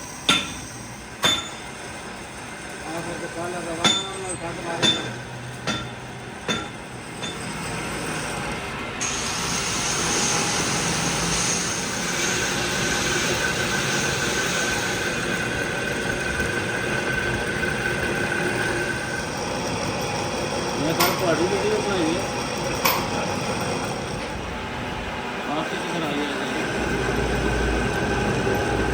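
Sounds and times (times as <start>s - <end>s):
metalworking machinery hissing: 0.0s - 28.9s
steady machine whine: 0.0s - 28.9s.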